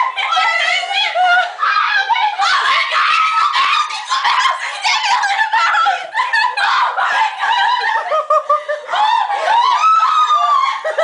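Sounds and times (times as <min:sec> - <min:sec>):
young people laughing and squealing: 0:00.0 - 0:11.0.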